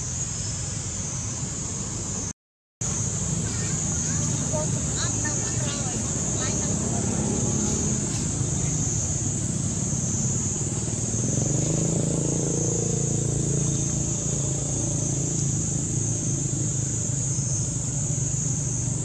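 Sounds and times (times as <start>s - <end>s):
high-pitched hiss: 0.0s - 19.0s
vehicle engine hum: 0.0s - 19.0s.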